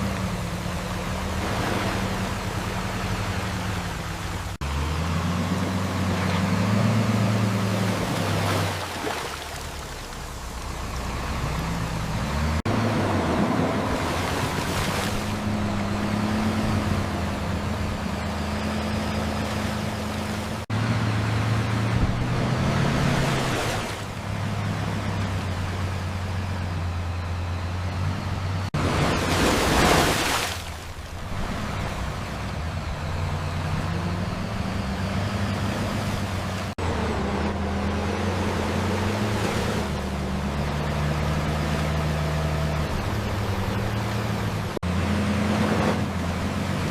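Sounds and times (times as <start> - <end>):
dump truck engine running: 0.0 - 8.5, 9.6 - 29.3, 30.6 - 46.9
noisy wash of mud and water: 0.0 - 46.9.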